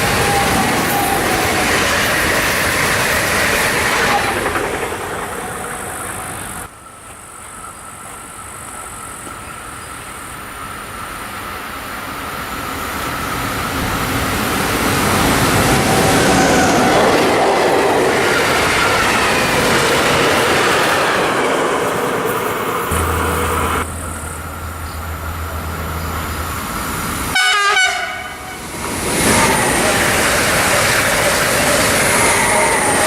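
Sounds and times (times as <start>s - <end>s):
train approaching with high whine: 0.0s - 33.0s
train passing: 0.0s - 33.0s.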